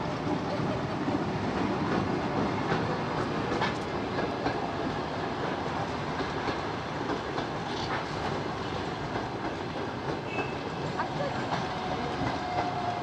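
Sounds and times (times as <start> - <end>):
train rolling rumble: 0.0 - 13.0.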